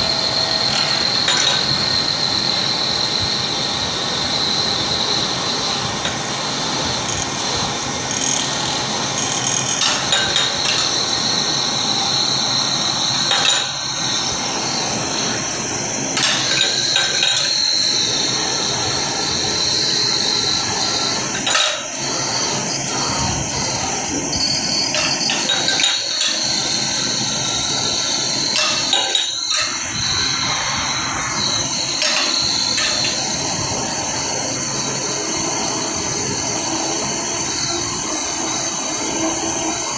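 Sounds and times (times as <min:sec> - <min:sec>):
lathe high whine: 0:00.0 - 0:39.9.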